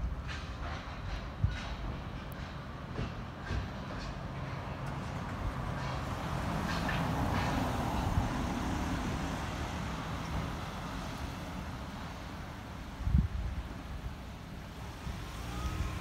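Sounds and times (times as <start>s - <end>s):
vehicles passing: 2.2s - 16.0s.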